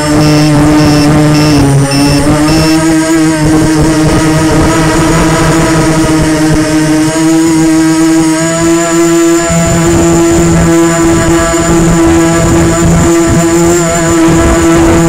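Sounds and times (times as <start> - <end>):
drone propellers buzzing: 0.0 - 15.0
thin high whine: 0.0 - 15.0.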